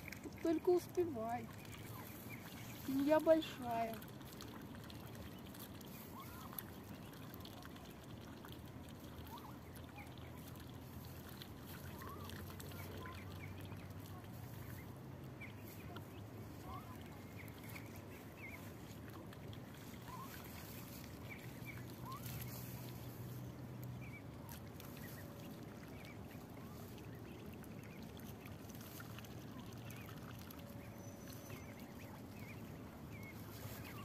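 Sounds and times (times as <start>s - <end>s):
ducklings peeping: 0.0s - 34.0s
low steady background hum: 0.0s - 34.0s.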